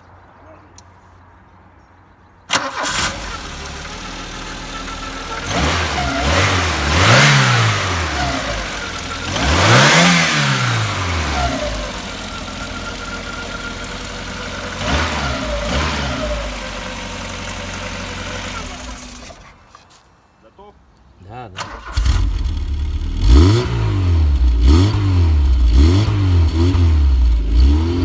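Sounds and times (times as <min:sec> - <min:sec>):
car engine starting and revving: 0:02.5 - 0:19.6, 0:21.6 - 0:28.0.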